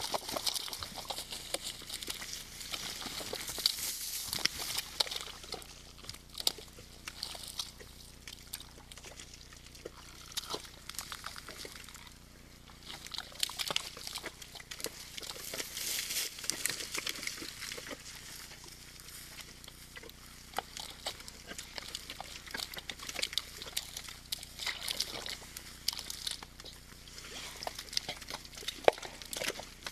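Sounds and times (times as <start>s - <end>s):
hooves splashing in mud: 0.0s - 29.9s.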